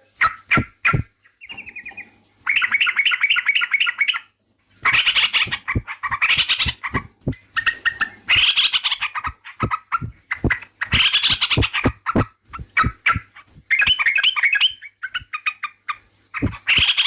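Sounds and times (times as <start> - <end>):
bulbul singing rapid chattering: 0.2 - 4.2, 4.9 - 15.8, 16.4 - 17.0.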